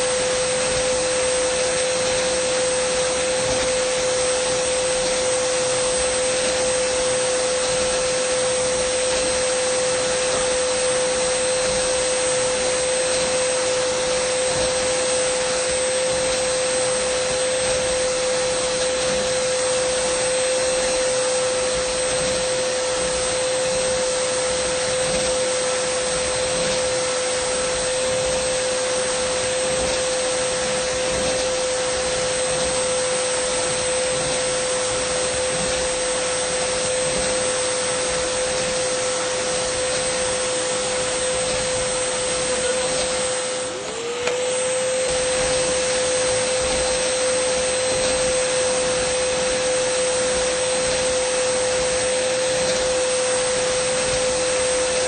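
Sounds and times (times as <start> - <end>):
vacuum cleaner whine: 0.0 - 55.0.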